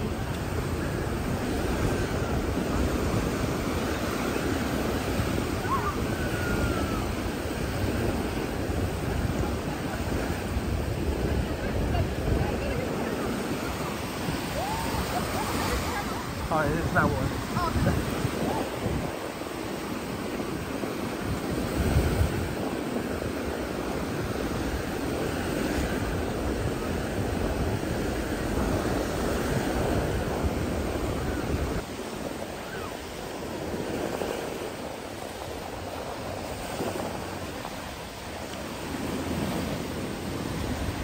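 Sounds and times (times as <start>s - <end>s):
surf washing onto beach: 0.0s - 41.0s
wind buffeting microphone: 0.0s - 41.0s.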